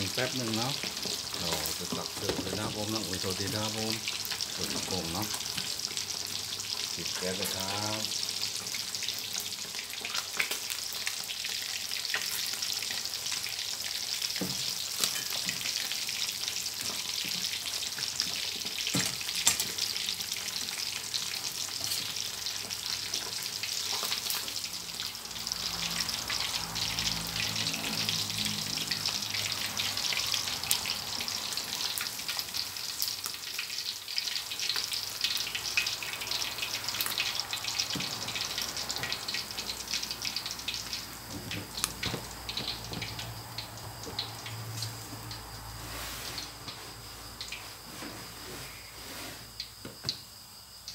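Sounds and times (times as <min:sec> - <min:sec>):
hot oil sizzling in a wok: 0:00.0 - 0:50.9.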